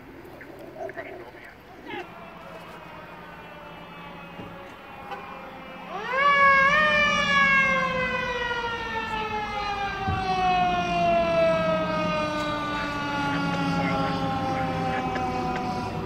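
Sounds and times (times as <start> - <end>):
truck engine drone: 0.0 - 16.0
mechanical siren wailing: 1.6 - 16.0.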